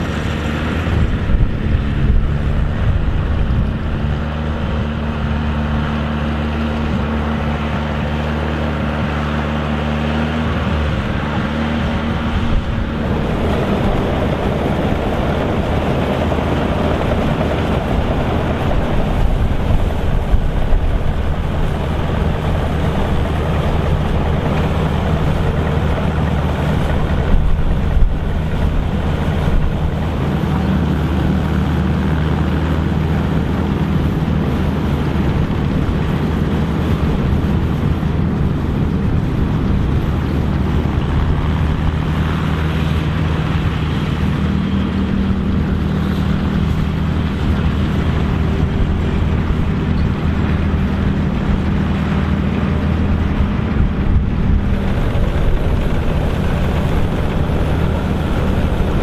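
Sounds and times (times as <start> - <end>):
low machine hum: 0.0 - 59.0
threshing works noise: 0.0 - 59.0.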